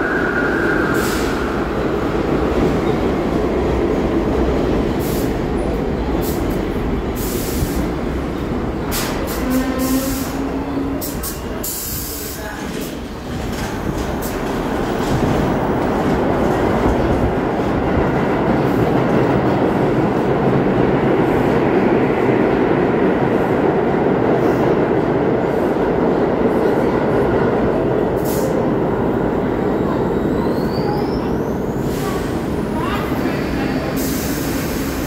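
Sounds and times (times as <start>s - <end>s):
subway train rumbling on rails: 0.0s - 35.0s.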